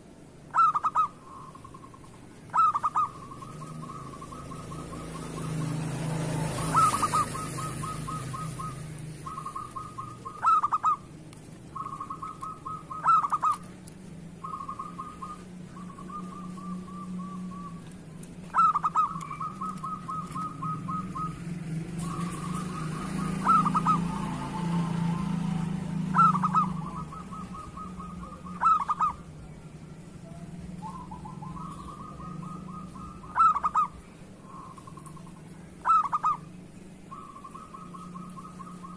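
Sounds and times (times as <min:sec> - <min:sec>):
dove cooing with rattling notes: 0:00.0 - 0:38.9.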